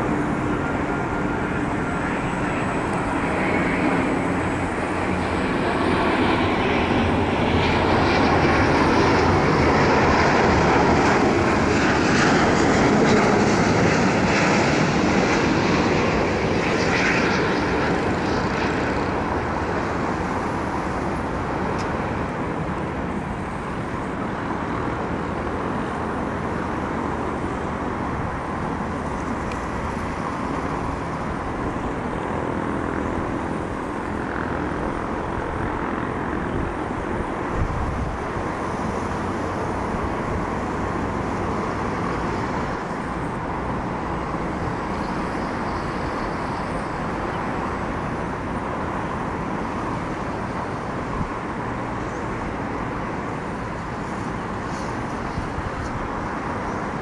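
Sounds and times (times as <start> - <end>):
jet airliner engine noise: 0.0 - 57.0.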